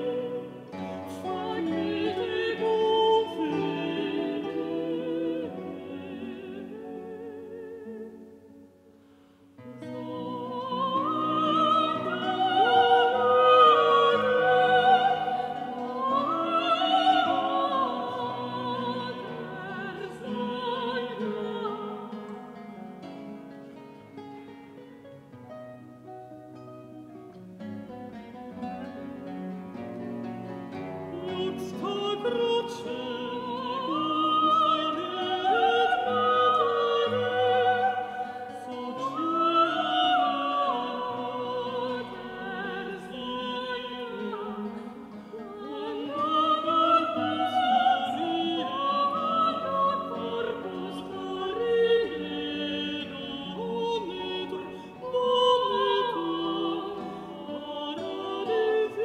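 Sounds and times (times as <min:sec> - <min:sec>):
operatic duet singing: 0:00.0 - 0:08.4, 0:09.6 - 0:23.0, 0:30.8 - 0:59.0
guitar accompaniment: 0:00.0 - 0:59.0.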